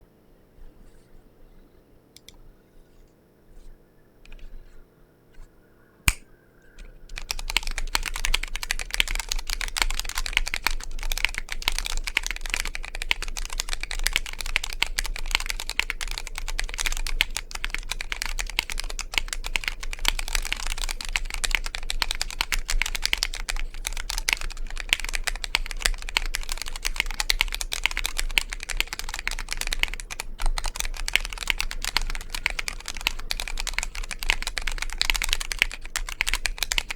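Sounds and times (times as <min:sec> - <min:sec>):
scattered clicks: 0:06.8 - 0:36.9
fast mechanical keyboard typing: 0:07.1 - 0:36.9.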